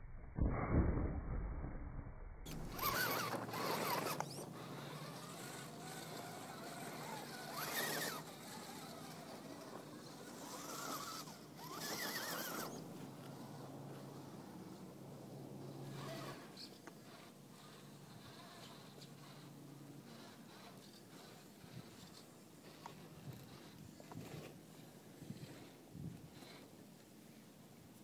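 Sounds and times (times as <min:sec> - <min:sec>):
toy car electric motor whining: 0:02.5 - 0:14.5, 0:15.6 - 0:26.7.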